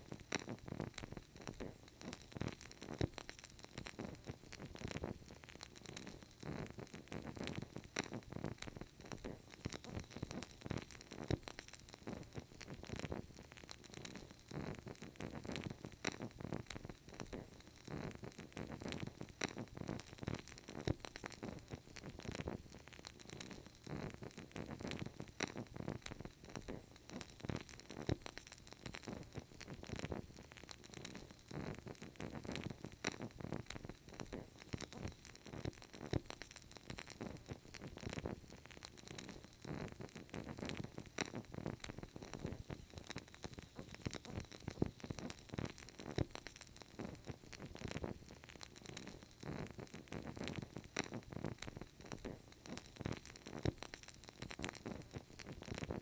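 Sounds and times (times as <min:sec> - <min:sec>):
candle crackling softly: 0:00.0 - 0:56.0.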